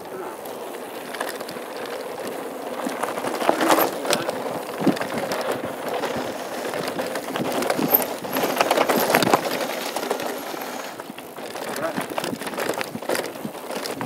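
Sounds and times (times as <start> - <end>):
bike rattling over bumps: 0.0 - 14.0
tyres crunching over loose stones: 0.0 - 14.0.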